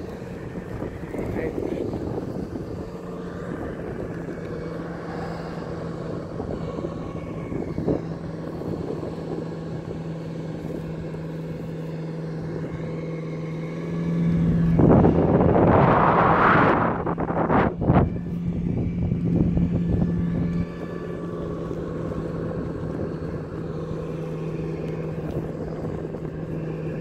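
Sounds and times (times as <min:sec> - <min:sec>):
boat engine drone: 0:00.0 - 0:27.0
wind on microphone: 0:00.0 - 0:27.0.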